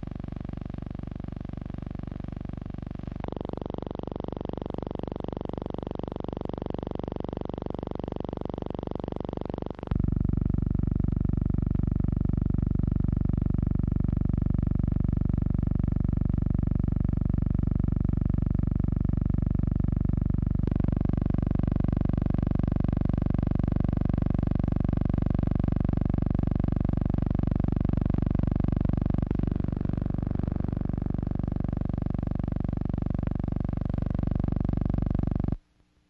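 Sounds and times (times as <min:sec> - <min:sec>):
fluttering buzzing hum: 0:00.0 - 0:35.6.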